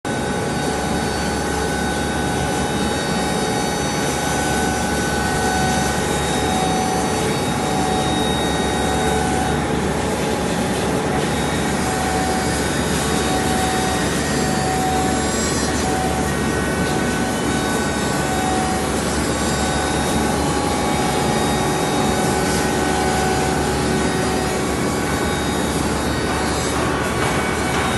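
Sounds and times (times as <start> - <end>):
machine running with whine: 0.1 - 27.9.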